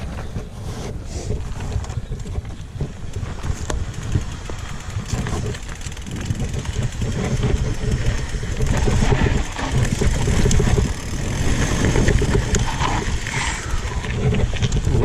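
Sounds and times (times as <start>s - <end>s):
wheels rumbling on trail: 0.0s - 15.0s
wind buffeting microphone: 0.0s - 15.0s.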